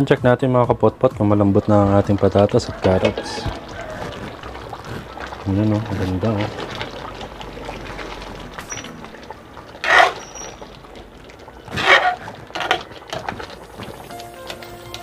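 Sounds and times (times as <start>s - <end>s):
metal spoon stirring stew: 1.5s - 15.0s.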